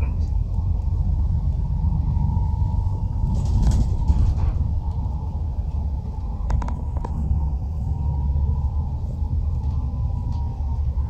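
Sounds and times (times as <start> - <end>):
faint steady whine: 0.0 - 11.0
vehicle rumble: 0.0 - 11.0.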